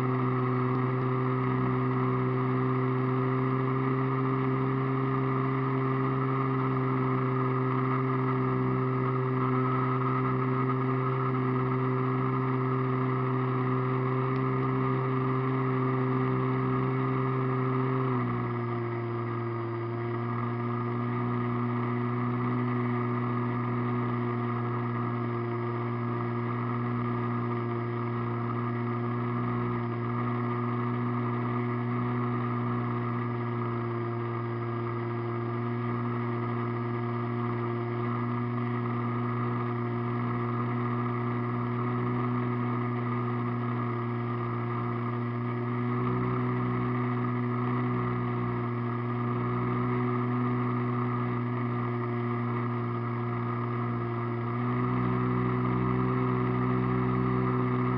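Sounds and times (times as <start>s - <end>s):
model airplane motor and propeller: 0.0s - 57.9s.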